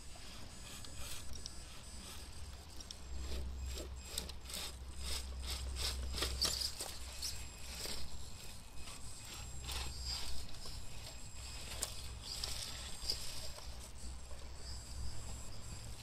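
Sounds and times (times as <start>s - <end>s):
tyres and chassis scraping rock: 0.0s - 16.0s.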